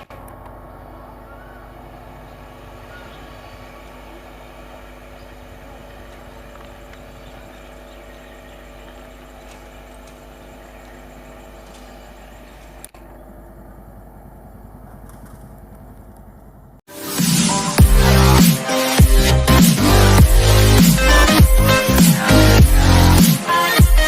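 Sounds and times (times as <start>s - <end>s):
electric train hum: 0.0s - 24.0s.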